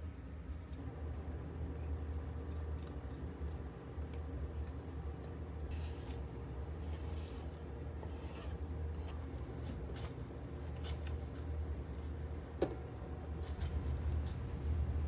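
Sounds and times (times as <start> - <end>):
steady low hum: 0.0 - 15.0
spatula stirring sticky paste: 1.2 - 14.4.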